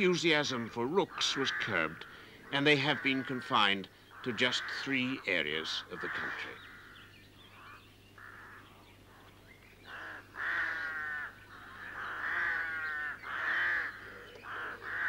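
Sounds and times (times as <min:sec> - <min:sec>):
rooks cawing: 0:00.0 - 0:15.0.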